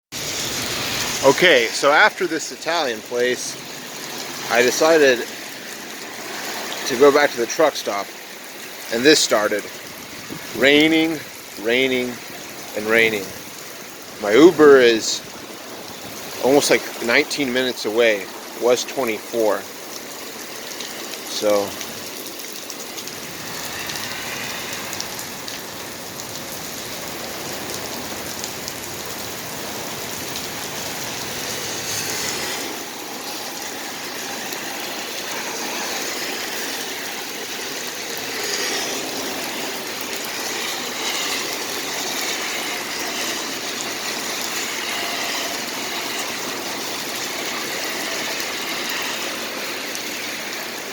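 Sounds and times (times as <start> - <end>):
steady rain hiss: 0.1 - 50.9.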